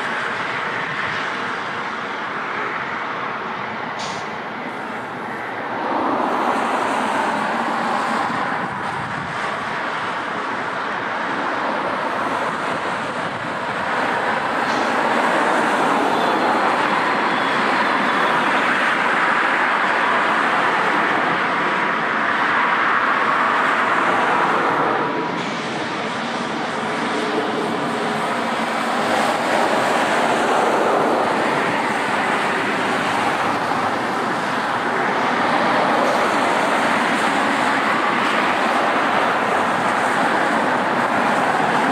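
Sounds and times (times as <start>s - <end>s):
jet engines roaring: 0.0s - 41.9s.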